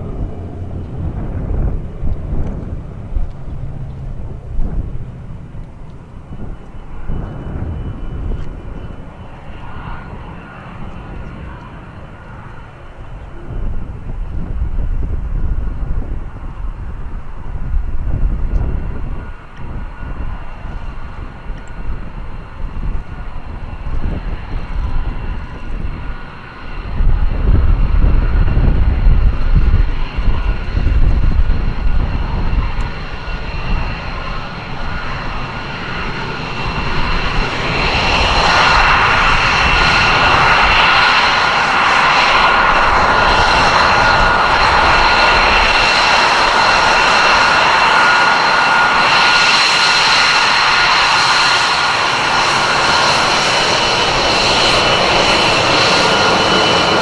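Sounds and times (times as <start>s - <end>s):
aircraft engine roar: 0.0s - 57.0s
high engine whine: 0.0s - 57.0s.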